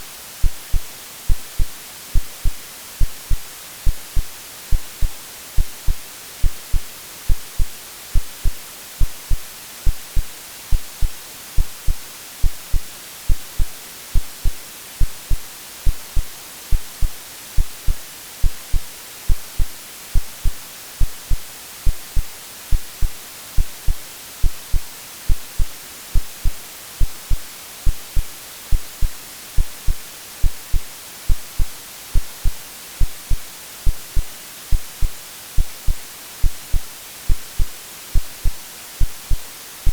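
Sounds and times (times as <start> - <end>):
white noise hiss: 0.0 - 39.9
heartbeat thumps: 0.4 - 39.9.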